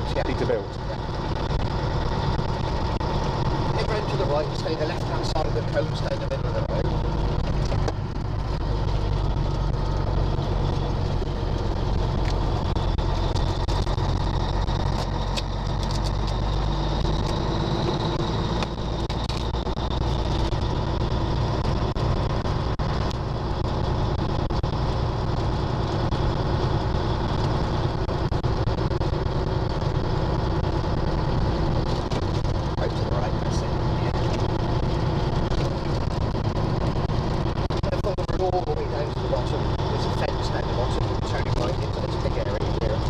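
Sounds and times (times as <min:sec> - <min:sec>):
truck diesel engine droning: 0:00.0 - 0:43.0.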